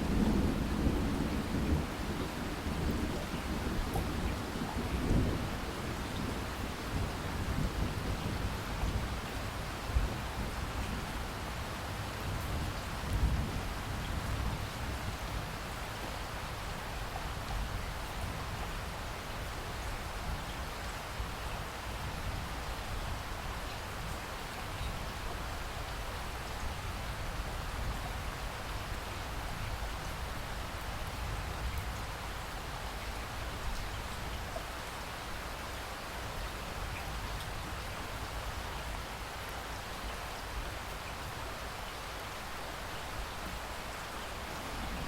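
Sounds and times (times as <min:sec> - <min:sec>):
rain on foliage: 0:00.0 - 0:45.0.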